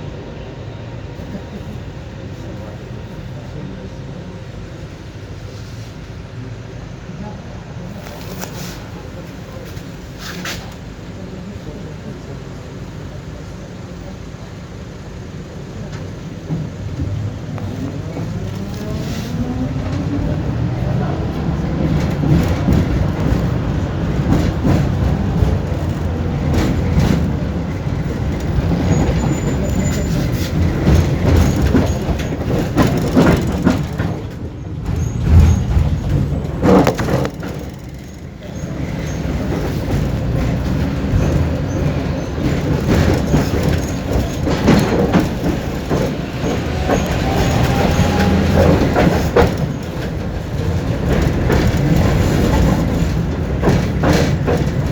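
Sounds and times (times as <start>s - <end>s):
tram wheels rumbling on rails: 0.0s - 54.9s.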